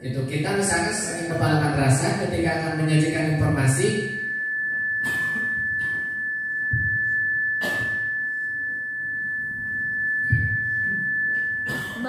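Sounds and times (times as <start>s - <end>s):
high-pitched microphone whine: 0.0s - 12.0s.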